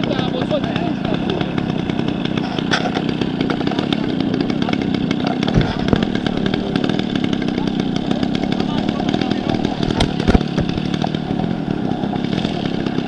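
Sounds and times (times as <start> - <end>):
model airplane engine running: 0.0 - 13.0.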